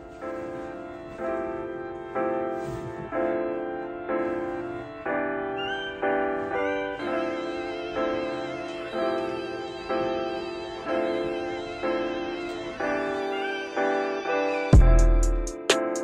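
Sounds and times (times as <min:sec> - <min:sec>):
instrumental music chords: 0:00.0 - 0:16.0.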